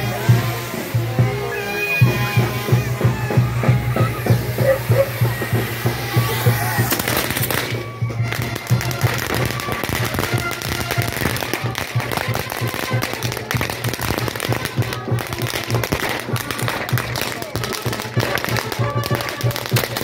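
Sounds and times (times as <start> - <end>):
fireworks crackling and popping: 0.0 - 20.0
music: 0.0 - 20.0.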